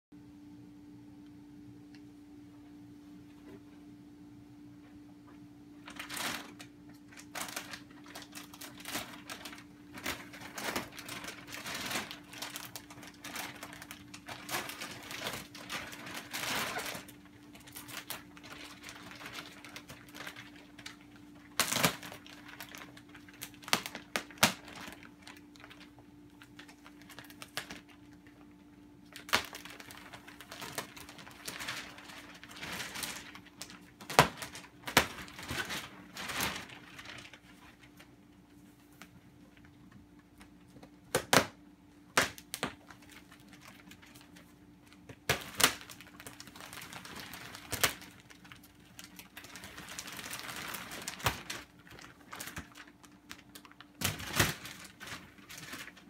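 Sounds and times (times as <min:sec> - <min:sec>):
faint steady hum: 0:00.1 - 0:56.0
plastic wrapping crinkling: 0:05.7 - 0:56.0.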